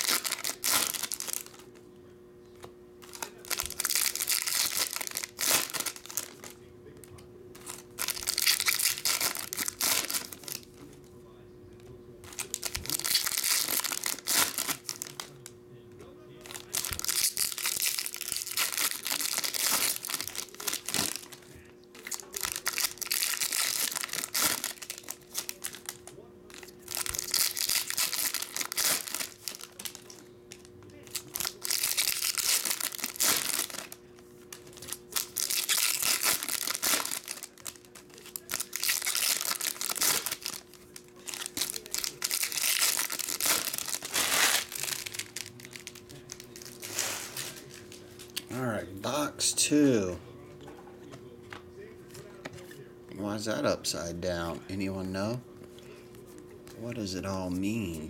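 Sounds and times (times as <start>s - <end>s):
foil wrappers crinkling and tearing: 0.0s - 1.8s, 3.0s - 11.0s, 12.2s - 15.5s, 16.3s - 49.8s.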